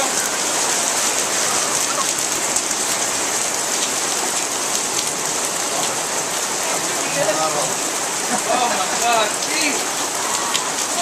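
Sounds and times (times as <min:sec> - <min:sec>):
steady rain pattering: 0:00.0 - 0:11.0.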